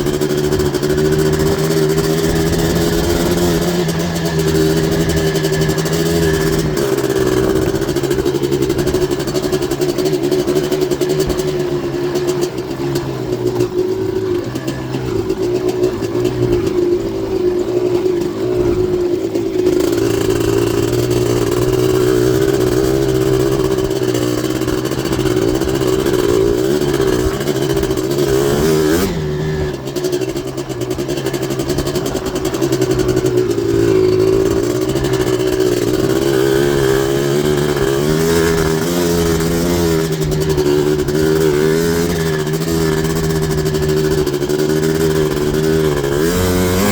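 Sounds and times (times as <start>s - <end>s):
two-stroke engine running hard: 0.0s - 46.9s.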